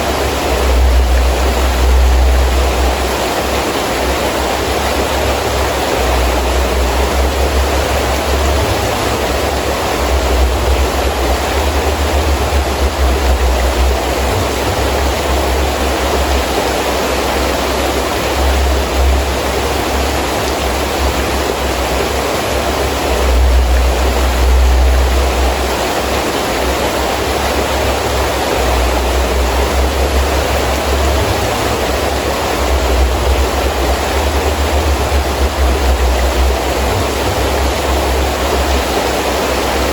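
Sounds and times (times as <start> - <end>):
gusting wind rumble: 0.0 - 39.9
heavy rain falling: 0.0 - 39.9.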